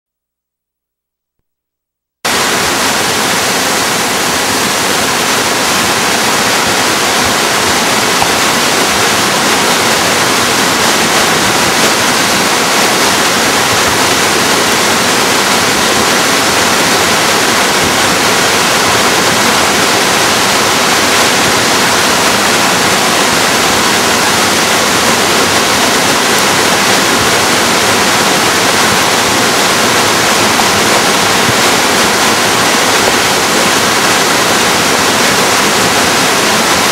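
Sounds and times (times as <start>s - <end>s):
river water rushing: 2.3s - 36.9s.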